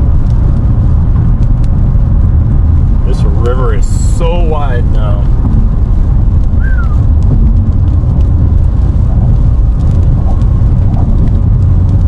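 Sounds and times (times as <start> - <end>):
car tyre and wind rumble: 0.0 - 12.0.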